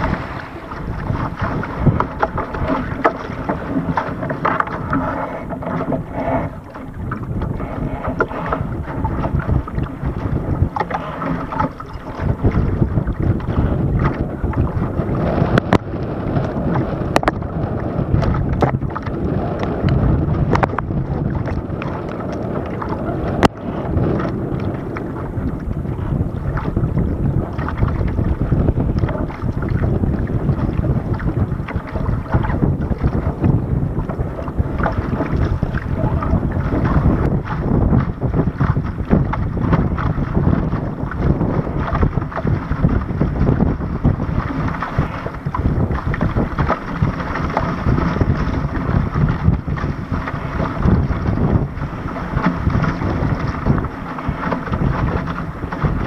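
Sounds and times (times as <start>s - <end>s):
hull slapping through waves: 0.0s - 56.0s
wind buffeting microphone: 0.0s - 56.0s.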